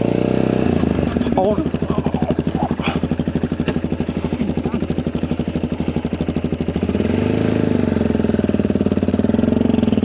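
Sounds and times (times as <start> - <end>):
motorcycle engine idling and revving: 0.0 - 10.0.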